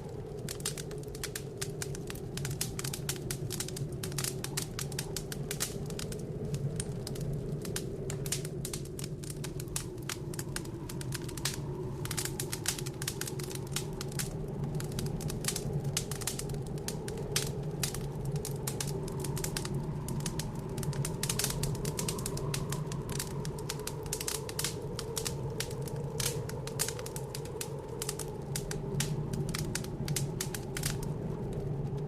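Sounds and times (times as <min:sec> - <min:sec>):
low rushing of fire: 0:00.0 - 0:32.0
wood fire crackling: 0:00.0 - 0:32.0.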